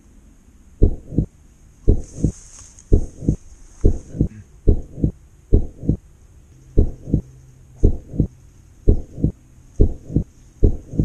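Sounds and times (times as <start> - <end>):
heartbeat thumps: 0.8 - 6.0, 6.8 - 11.0.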